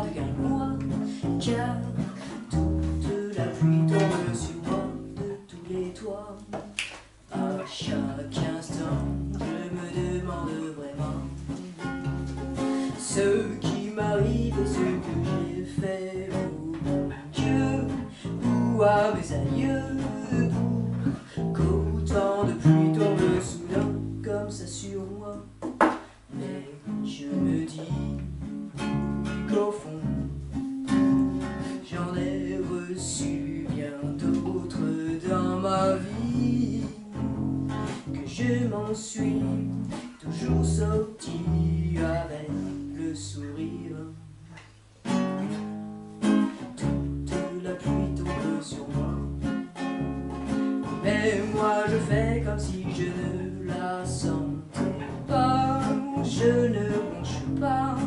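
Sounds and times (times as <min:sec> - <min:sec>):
acoustic guitars playing: 0:00.0 - 0:58.0.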